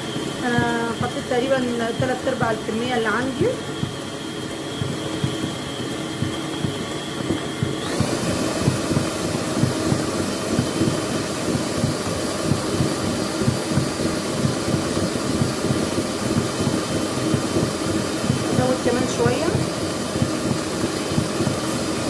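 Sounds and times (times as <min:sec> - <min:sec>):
electric mixer motor whine: 0:00.0 - 0:22.0
rhythmic thudding of dough: 0:00.0 - 0:22.0.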